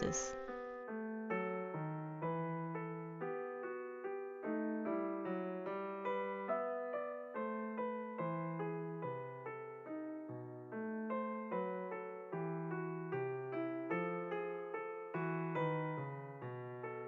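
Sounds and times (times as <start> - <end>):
gentle electric piano melody: 0.0 - 17.0.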